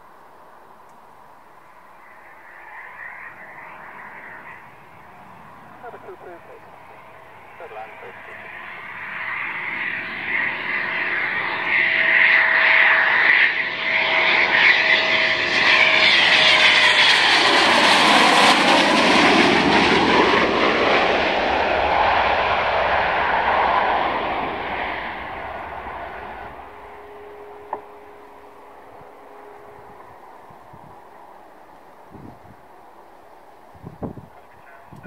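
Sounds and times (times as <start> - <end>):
fighter jet passing overhead: 1.7 - 35.0.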